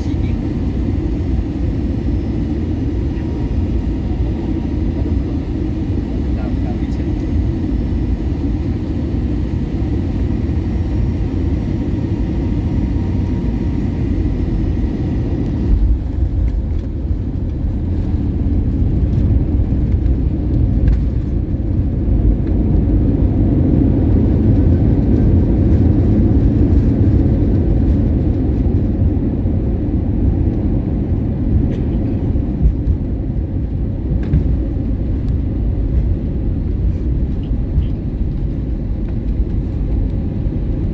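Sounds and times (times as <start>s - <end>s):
airliner engine and airflow rumble: 0.0s - 40.9s.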